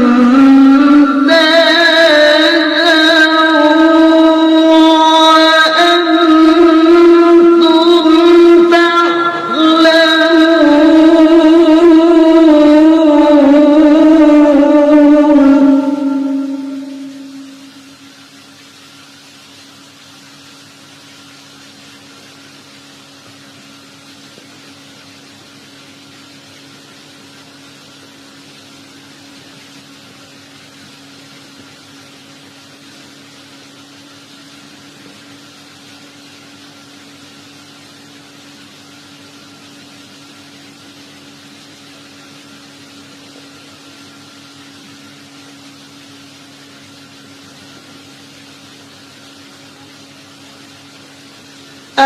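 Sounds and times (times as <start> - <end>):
constant low hum: 0.0 - 52.0
steady background hiss: 0.0 - 52.0.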